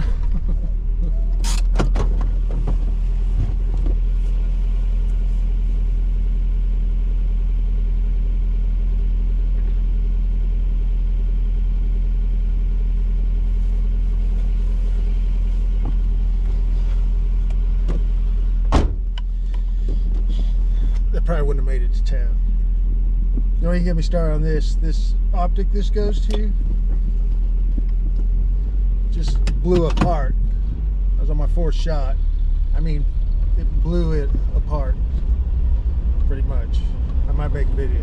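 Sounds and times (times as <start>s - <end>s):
vehicle rumble inside cabin: 0.0s - 38.0s.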